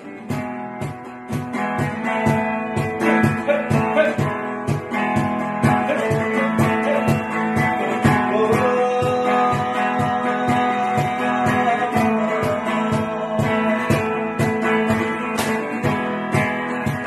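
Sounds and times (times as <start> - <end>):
drum beat: 0.0 - 17.0
electric guitar playing: 0.0 - 17.0.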